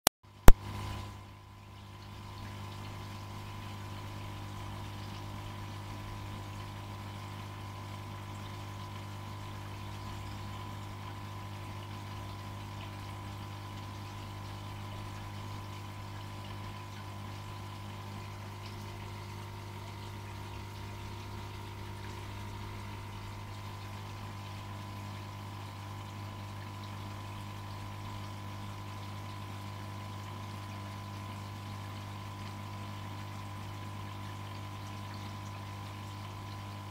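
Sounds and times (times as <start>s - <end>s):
aquarium pump humming: 0.3s - 36.9s
water running and bubbling: 0.3s - 36.9s.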